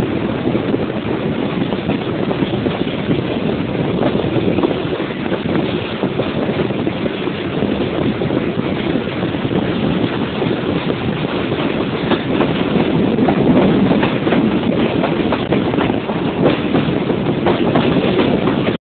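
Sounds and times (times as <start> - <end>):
train wheels rumbling on rails: 0.0 - 18.8
rail joint clicks: 1.0 - 18.8.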